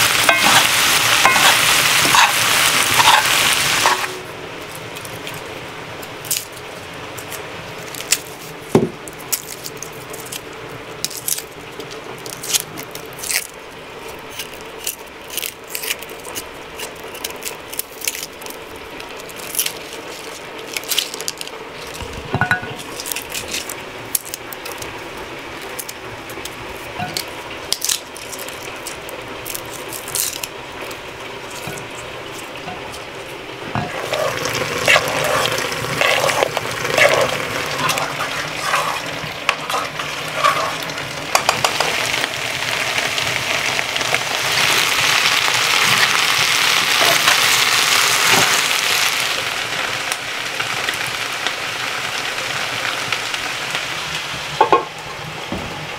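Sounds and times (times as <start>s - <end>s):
garlic skin crackling: 0.0s - 49.3s.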